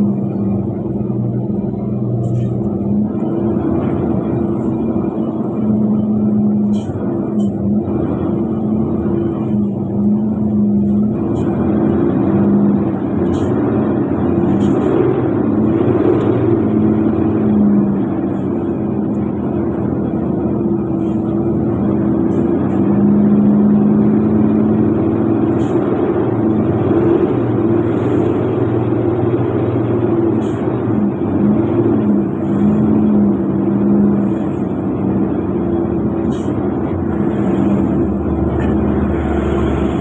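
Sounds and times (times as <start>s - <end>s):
road noise: 0.0s - 40.0s
vehicle engine humming: 0.0s - 40.0s.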